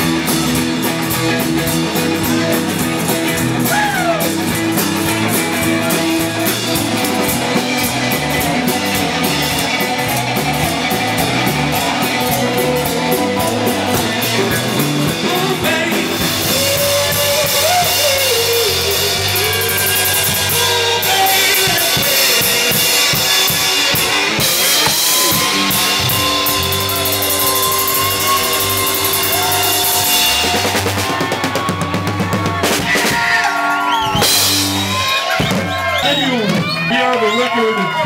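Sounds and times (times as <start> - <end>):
drum kit: 0.0 - 38.0
rock band playing live: 0.0 - 38.0.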